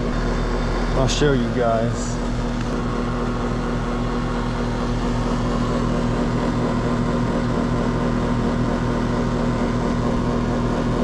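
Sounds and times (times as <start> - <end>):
fan rushing: 0.0 - 11.0
heat pump electrical hum: 0.0 - 11.0.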